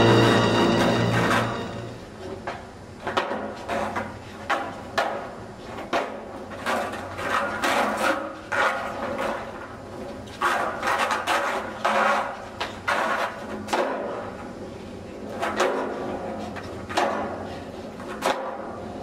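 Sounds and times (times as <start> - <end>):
skateboard wheels rolling on asphalt: 2.1 - 19.0
skateboard deck clacking: 2.5 - 14.4, 15.2 - 19.0.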